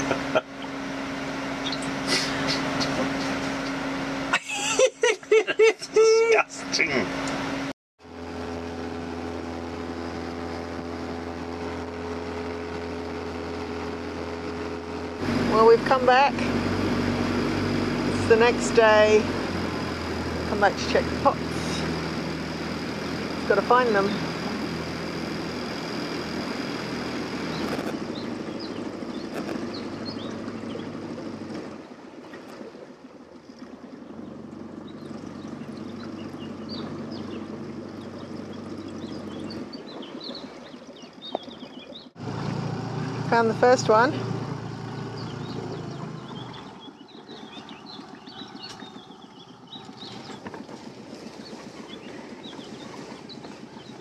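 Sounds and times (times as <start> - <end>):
birds chirping: 0.0 - 7.6, 15.3 - 32.0, 33.5 - 54.0
outboard motor humming: 0.0 - 54.0.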